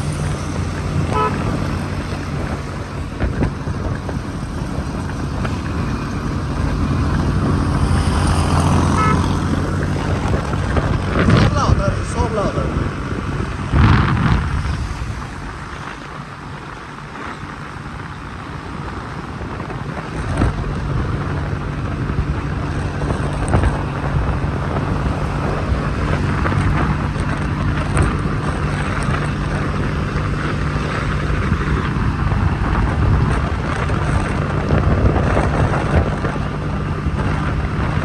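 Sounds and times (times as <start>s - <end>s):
road noise: 0.0s - 38.0s
scooter engine hum: 0.0s - 38.0s
wind buffeting microphone: 0.0s - 38.0s.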